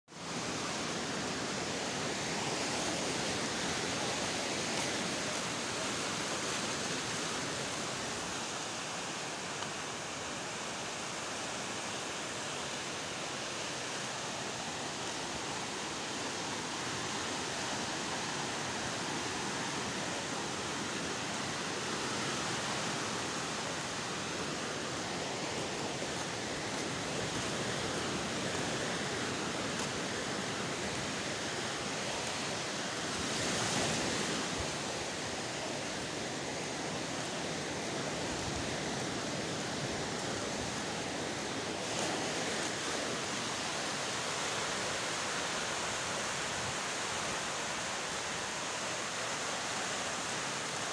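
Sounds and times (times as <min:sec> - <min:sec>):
waves breaking on shore: 0:00.1 - 0:50.9.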